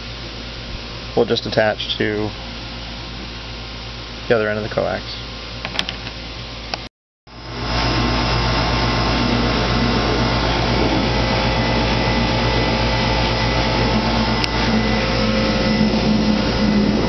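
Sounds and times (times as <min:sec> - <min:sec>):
machine humming with faint whine: 0:00.0 - 0:17.0.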